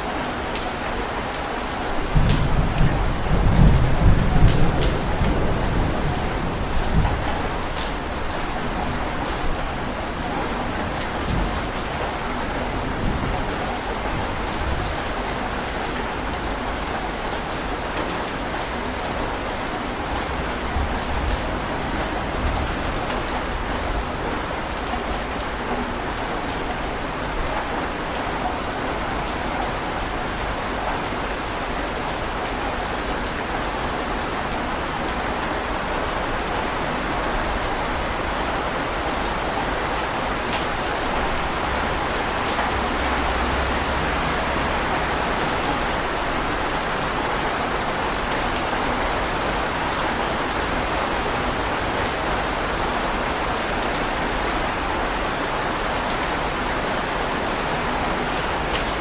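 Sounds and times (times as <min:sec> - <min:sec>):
heavy rain on a surface: 0:00.0 - 0:59.0.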